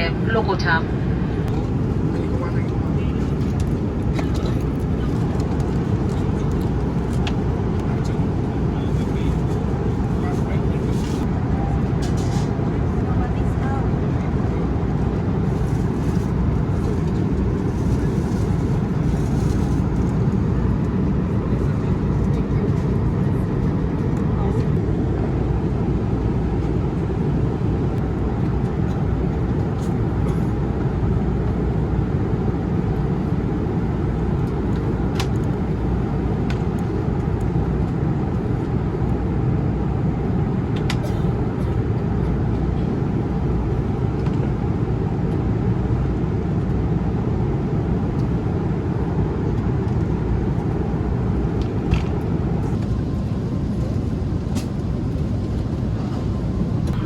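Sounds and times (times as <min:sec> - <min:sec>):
airliner cabin roar: 0:00.0 - 0:57.0.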